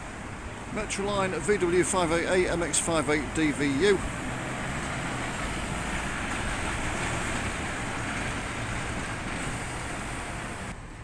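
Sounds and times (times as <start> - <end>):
bus passing: 0.0 - 11.0
road traffic noise: 0.0 - 11.0.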